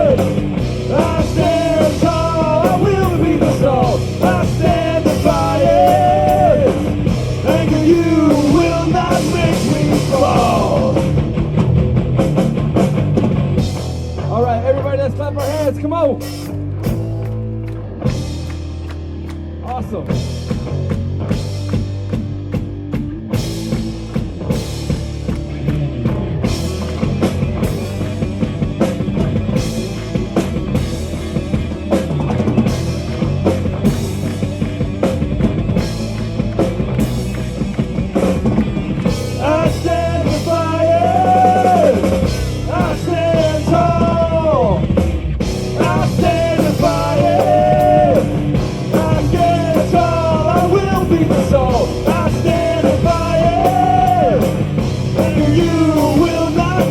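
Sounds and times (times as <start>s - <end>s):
drum kit: 0.0s - 56.9s
metal band playing: 0.0s - 56.9s.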